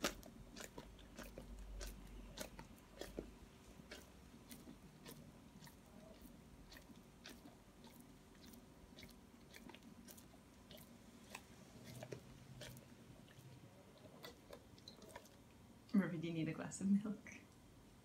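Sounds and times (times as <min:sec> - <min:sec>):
dog licking with wet smacking: 0:00.0 - 0:15.6.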